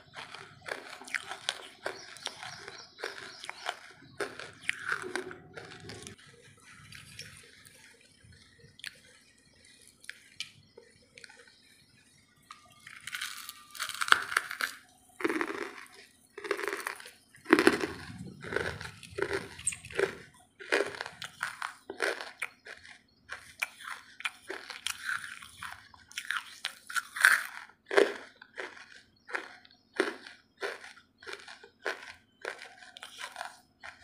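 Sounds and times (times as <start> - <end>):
chewing hard charcoal: 0.0 - 34.0.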